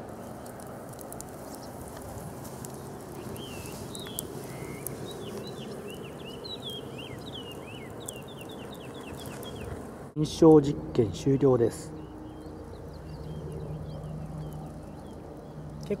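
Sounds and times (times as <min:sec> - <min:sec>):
wood fire crackling: 0:00.0 - 0:16.0
bird chirping: 0:03.2 - 0:16.0.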